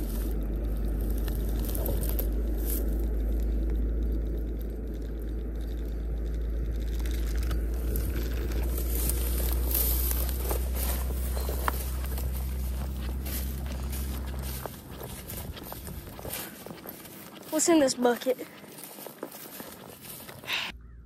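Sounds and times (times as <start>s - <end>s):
handling noise: 0.0s - 20.7s
footsteps through dry grass: 0.0s - 21.0s
steady low rumble: 0.0s - 21.0s.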